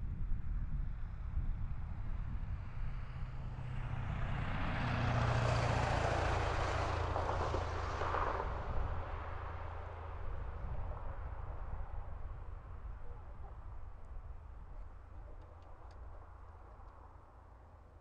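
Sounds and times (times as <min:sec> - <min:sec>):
distant vehicle passing: 0:02.8 - 0:18.0.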